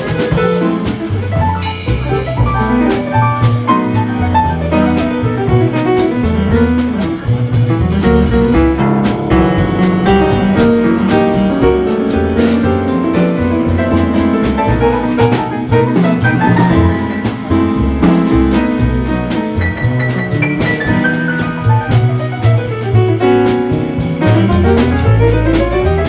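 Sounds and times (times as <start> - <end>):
double bass walking line: 0.0 - 26.0
drum kit and cymbals: 0.0 - 26.0
piano: 0.0 - 26.0.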